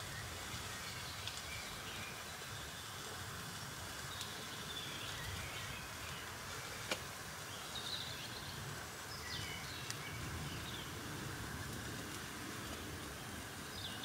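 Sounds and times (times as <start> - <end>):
birds chirping: 0.0 - 11.3, 12.8 - 14.0
outdoor hiss: 0.0 - 14.0.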